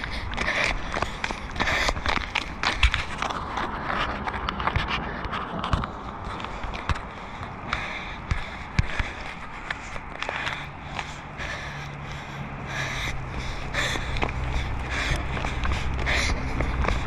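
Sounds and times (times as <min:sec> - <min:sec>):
footsteps on asphalt: 0:00.0 - 0:17.0.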